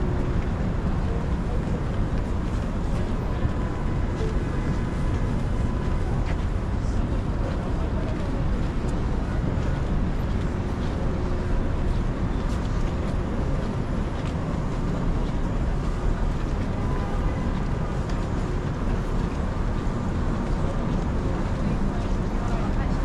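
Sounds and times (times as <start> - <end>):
low rumble of traffic: 0.0 - 23.0.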